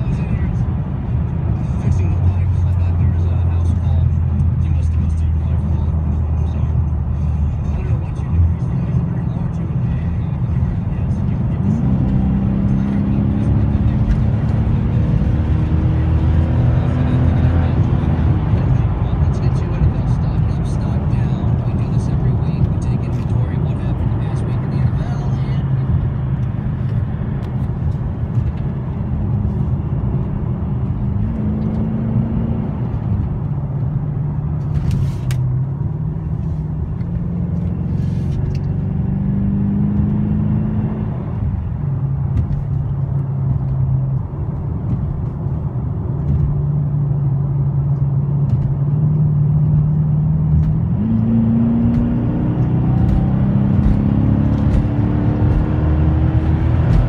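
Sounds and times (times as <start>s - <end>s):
car engine from inside cabin: 0.0s - 57.0s.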